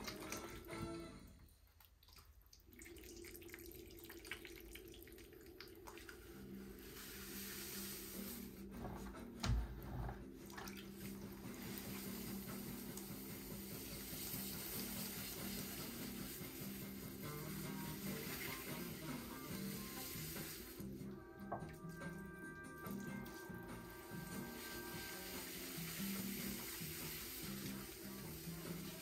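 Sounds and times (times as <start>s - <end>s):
tap water running and splashing: 0.0s - 1.0s, 1.7s - 29.0s.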